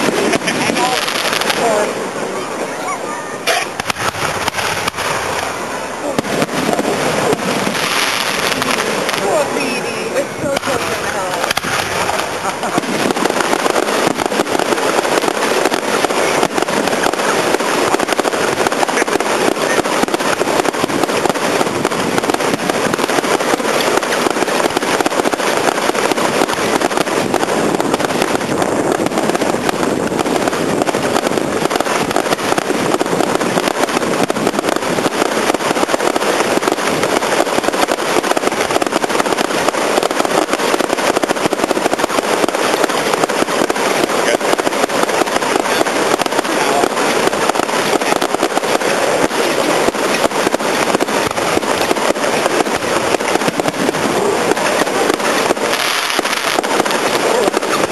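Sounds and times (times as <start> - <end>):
fireworks crackling and popping: 0.0 - 57.9.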